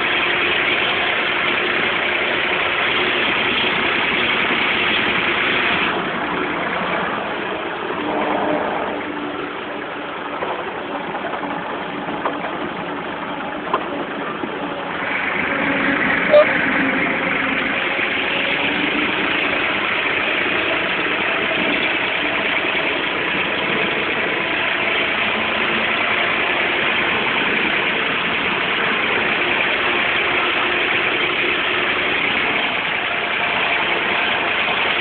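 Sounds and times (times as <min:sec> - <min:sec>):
rotary mower cutting grass: 0:00.0 - 0:35.0
tractor diesel engine running: 0:00.0 - 0:35.0.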